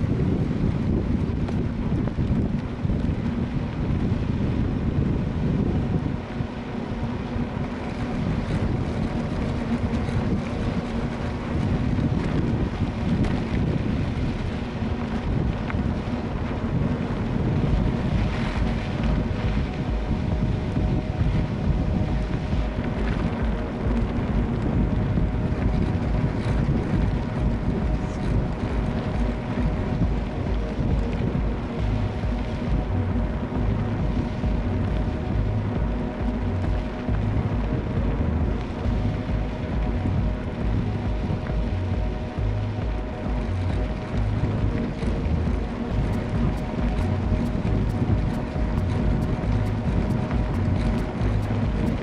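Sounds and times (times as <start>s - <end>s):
faint steady hum: 0.0s - 52.0s
wind buffeting microphone: 0.0s - 52.0s.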